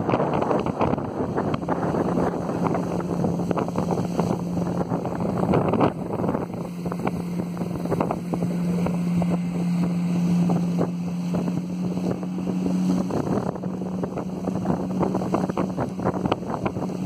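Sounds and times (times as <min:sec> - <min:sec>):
outboard motor running at speed: 0:00.0 - 0:17.0
wind buffeting microphone: 0:00.0 - 0:17.0.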